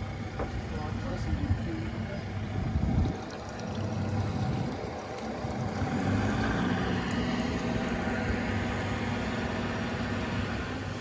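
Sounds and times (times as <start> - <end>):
outboard motors idling: 0.0 - 11.0.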